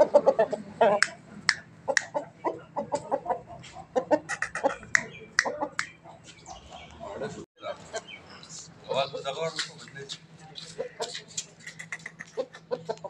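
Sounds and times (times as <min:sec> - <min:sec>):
rooster clucking: 0:00.0 - 0:08.2, 0:10.6 - 0:13.0.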